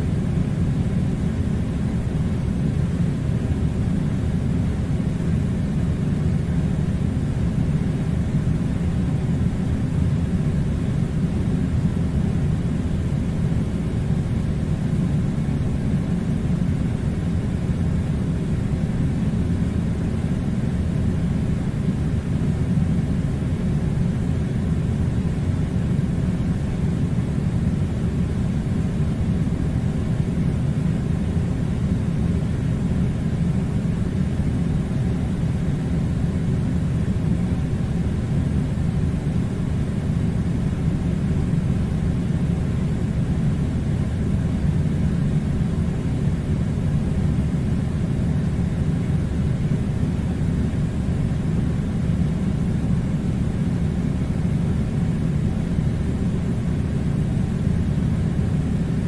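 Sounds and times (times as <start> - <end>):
air conditioner low rumble: 0.0 - 59.0.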